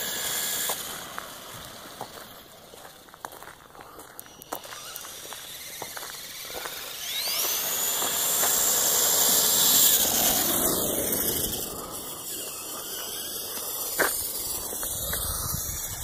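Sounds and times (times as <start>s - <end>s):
toy truck electric motors whining: 0.0s - 2.7s, 3.8s - 16.0s.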